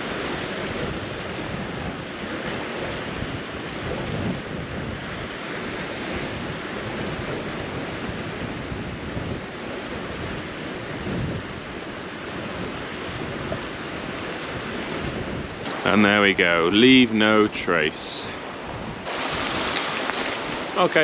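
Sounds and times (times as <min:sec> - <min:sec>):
sea surf: 0:00.0 - 0:21.0
wind buffeting microphone: 0:00.0 - 0:21.0.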